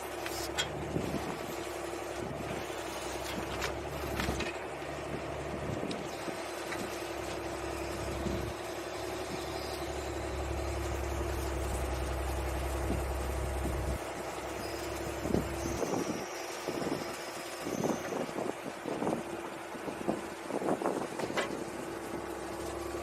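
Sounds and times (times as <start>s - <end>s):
engine running with low rumble: 0.0s - 23.0s.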